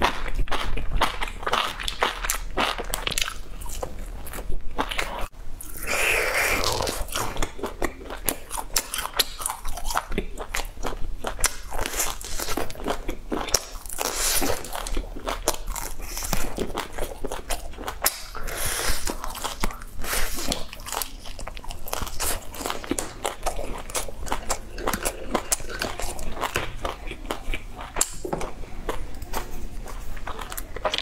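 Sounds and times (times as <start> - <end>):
chewing meat crunches: 0.0 - 28.2.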